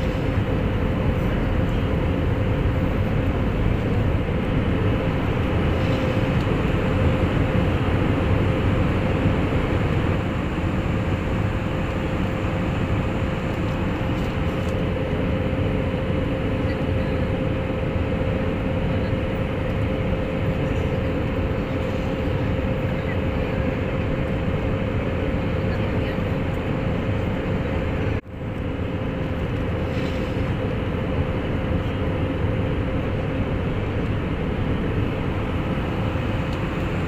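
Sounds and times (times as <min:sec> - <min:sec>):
jet engines and airflow rushing: 0:00.0 - 0:37.0.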